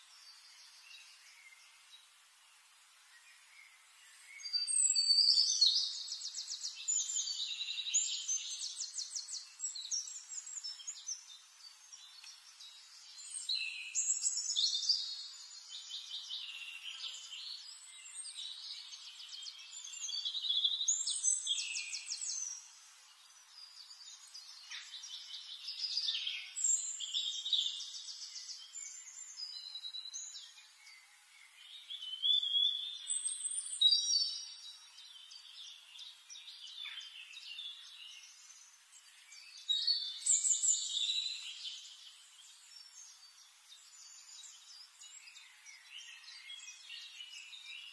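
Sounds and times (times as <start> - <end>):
songbird chirps and trills: 0.0 - 47.9.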